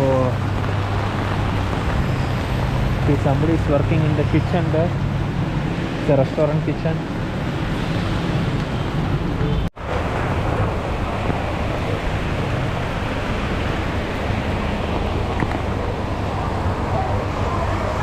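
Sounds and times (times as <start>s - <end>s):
gusting wind: 0.0s - 18.0s
heavy rain: 0.0s - 18.0s.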